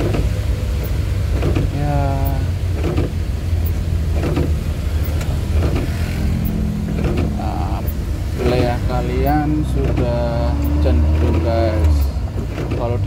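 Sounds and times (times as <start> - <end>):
heavy rain: 0.0 - 13.0
vehicle engine running: 0.0 - 13.0
windscreen wipers knocking: 0.0 - 13.0.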